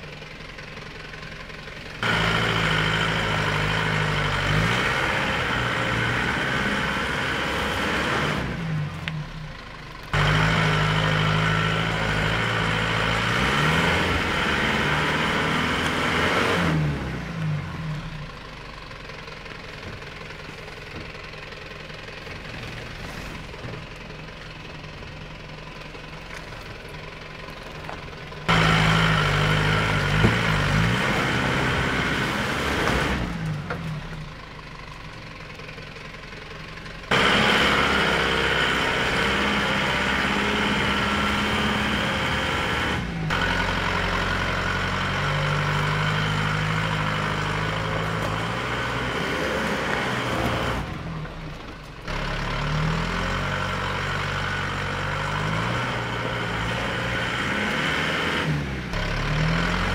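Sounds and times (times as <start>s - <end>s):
truck engine revving under load: 2.0s - 18.4s, 19.7s - 34.5s, 36.0s - 59.9s.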